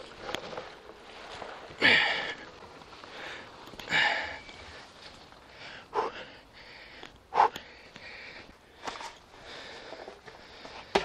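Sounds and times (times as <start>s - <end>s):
breathy huffs: 1.8s - 10.9s.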